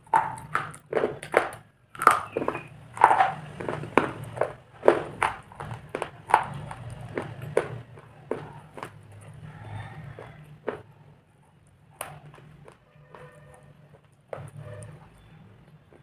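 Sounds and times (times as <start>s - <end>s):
slate being chewed crunching: 0.0s - 16.0s.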